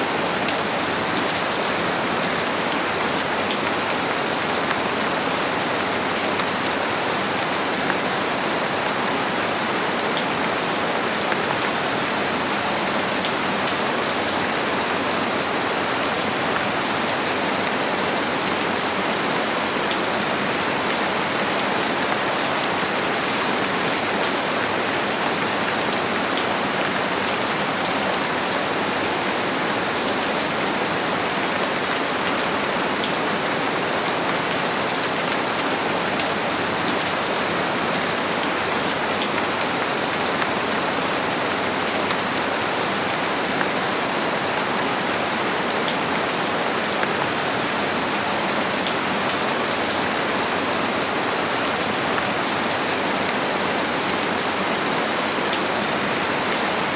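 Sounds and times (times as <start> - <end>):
steady rain with drop ticks: 0.0 - 56.9.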